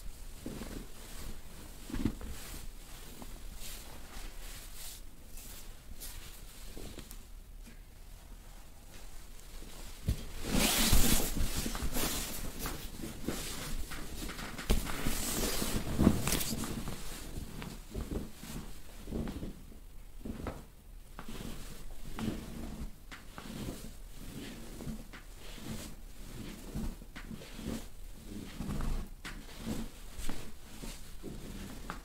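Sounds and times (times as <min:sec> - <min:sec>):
cloth rustling and rubbing: 0:00.0 - 0:32.0.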